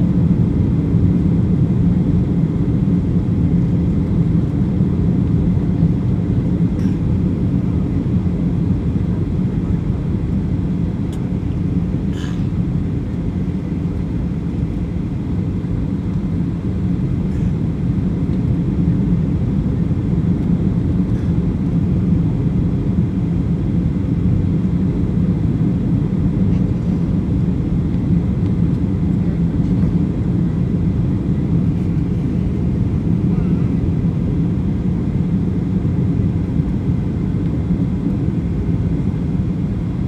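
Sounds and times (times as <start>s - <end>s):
airplane cabin engine drone: 0.0s - 40.0s.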